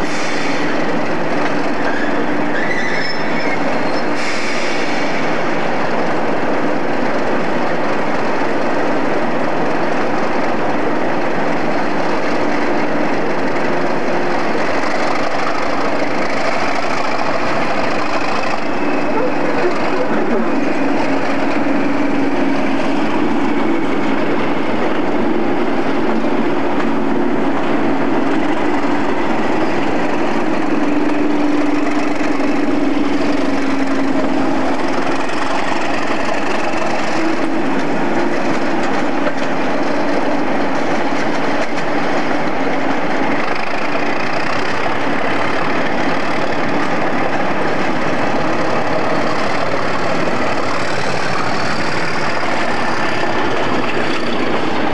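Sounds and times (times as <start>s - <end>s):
diesel locomotive engine humming: 0.0s - 54.9s.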